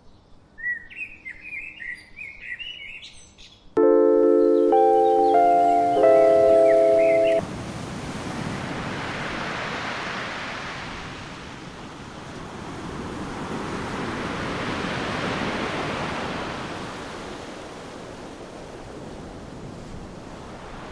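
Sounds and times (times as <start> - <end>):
ocean waves washing: 3.8 - 20.9.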